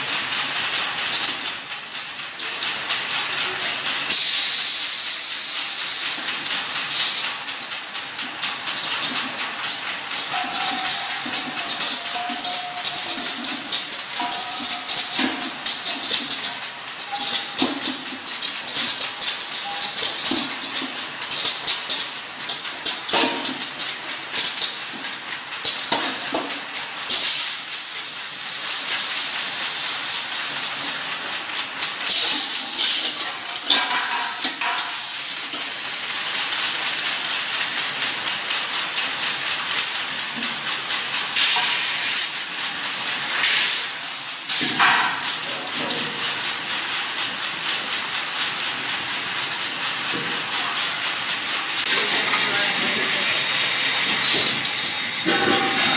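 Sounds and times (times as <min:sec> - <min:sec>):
machinery clicking and rattling: 0:00.0 - 0:28.2, 0:28.8 - 0:55.9.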